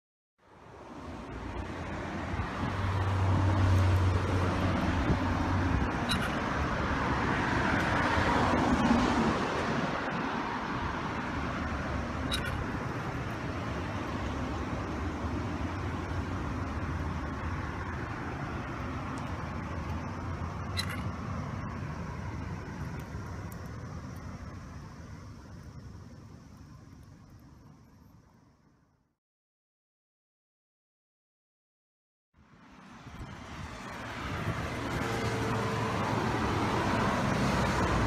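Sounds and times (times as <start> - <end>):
street noise: 0.4 - 28.8, 32.4 - 38.0
car passing: 0.6 - 27.4, 32.4 - 38.0
vehicle engine humming: 1.2 - 28.6, 33.0 - 38.0.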